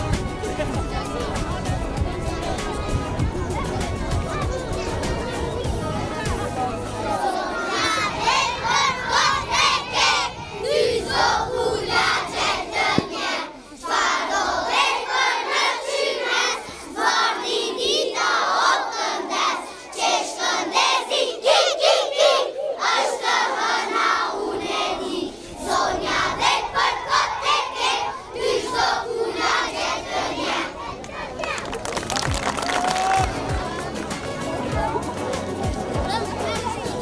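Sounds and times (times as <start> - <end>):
children shouting and cheering: 0.0 - 37.0.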